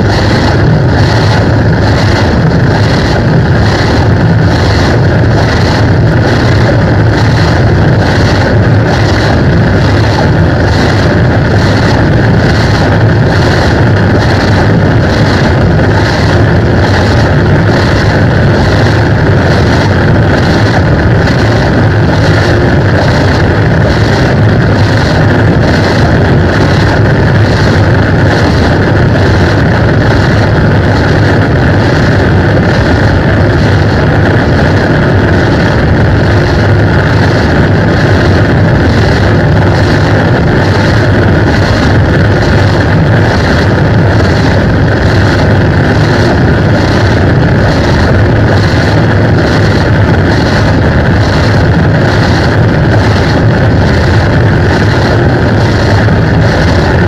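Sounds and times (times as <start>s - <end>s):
even high pulse: 0.0s - 49.8s
heavily distorted guitar drone: 0.0s - 57.0s.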